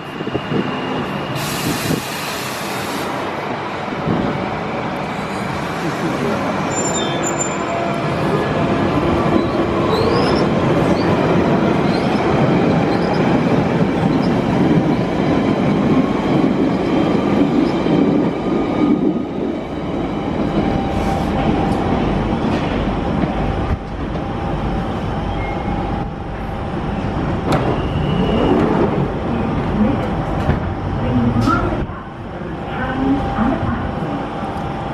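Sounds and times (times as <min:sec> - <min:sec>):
train wheels on rail: 0:00.0 - 0:31.9.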